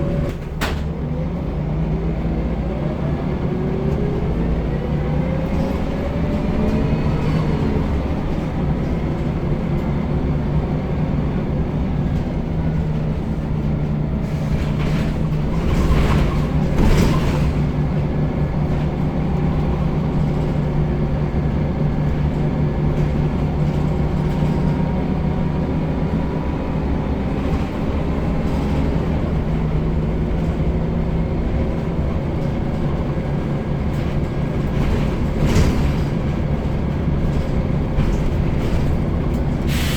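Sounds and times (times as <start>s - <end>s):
bus engine and transmission whine: 0.0s - 39.9s.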